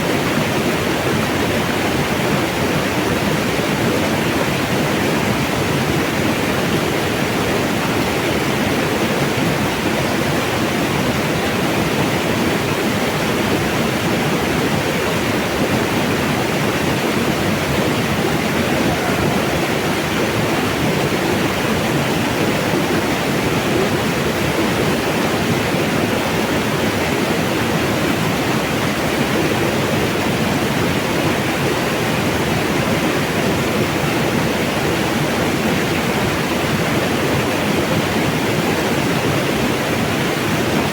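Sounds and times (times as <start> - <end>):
water rushing over rocks: 0.1 - 40.9.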